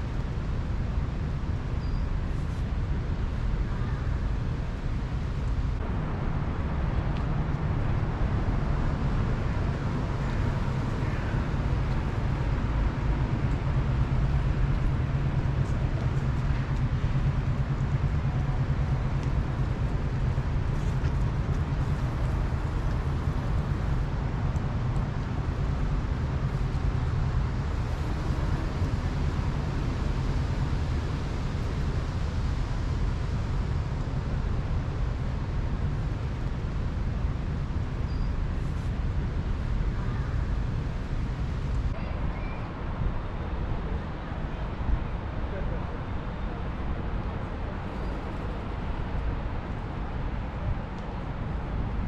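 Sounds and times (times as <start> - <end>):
city traffic rumble: 0.0 - 52.0.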